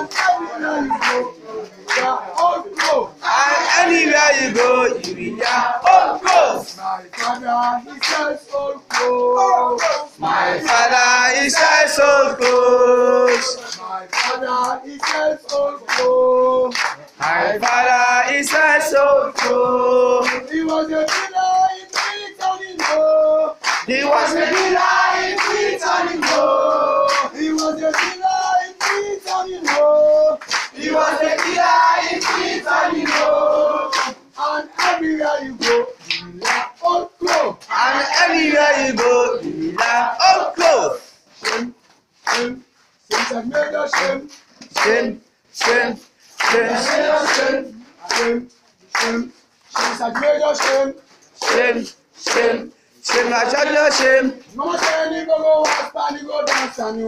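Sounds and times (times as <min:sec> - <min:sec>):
hand claps: 0:00.0 - 0:40.0, 0:41.4 - 0:57.0
group singing together: 0:00.0 - 0:57.0.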